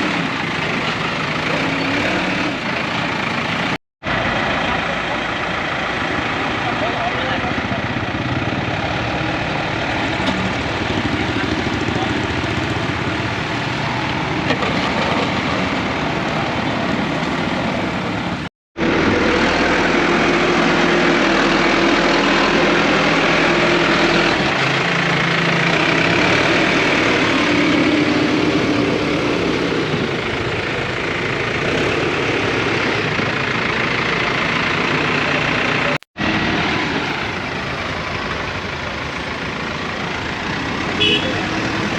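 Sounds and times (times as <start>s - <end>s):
heavy vehicle engine running: 0.0s - 41.9s
street noise: 0.0s - 41.9s.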